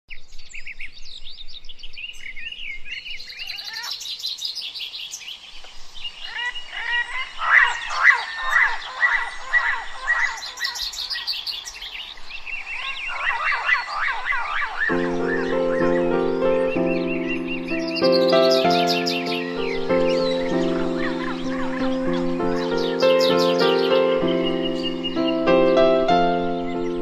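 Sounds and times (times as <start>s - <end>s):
bird singing sweeping notes: 0.1s - 27.0s
songbirds chirping and singing: 0.1s - 27.0s.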